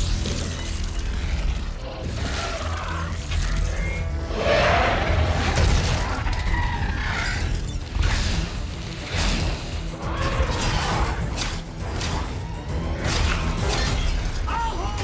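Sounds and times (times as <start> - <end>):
dramatic orchestral score: 0.0 - 15.0.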